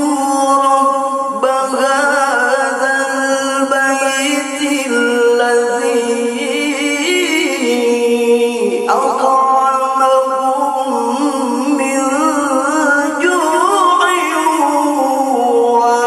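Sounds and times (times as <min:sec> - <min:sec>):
man chanting melismatic recitation: 0:00.0 - 0:16.0.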